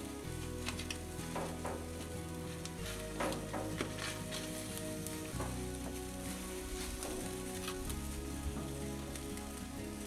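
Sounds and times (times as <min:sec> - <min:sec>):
fish sizzling on a grill: 0:00.0 - 0:10.0.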